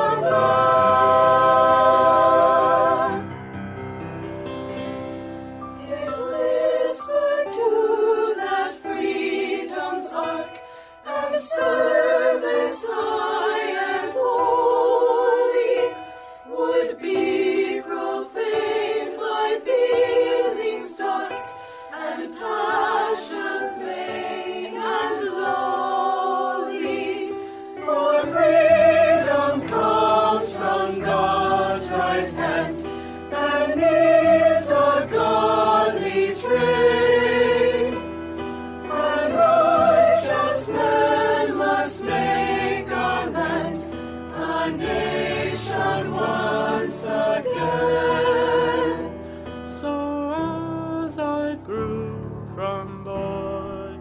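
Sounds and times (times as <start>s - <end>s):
choir singing held chords: 0.0s - 4.6s, 5.6s - 50.5s.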